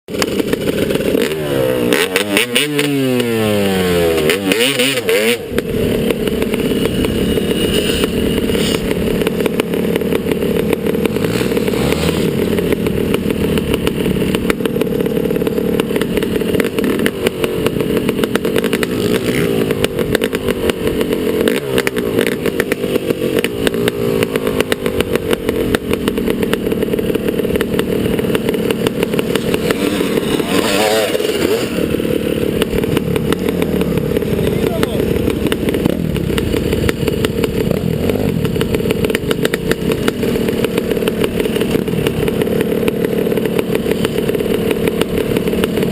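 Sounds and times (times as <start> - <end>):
motocross bike engine revving: 0.1 - 45.9.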